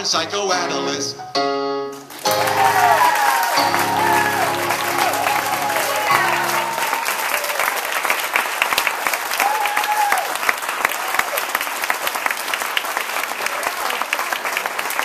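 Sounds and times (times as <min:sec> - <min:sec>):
audience applauding: 0:01.9 - 0:15.0.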